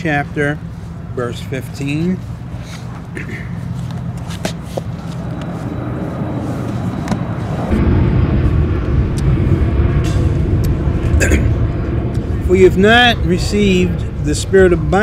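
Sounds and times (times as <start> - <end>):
road traffic rumble: 0.0 - 15.0
vehicle passing: 0.0 - 15.0.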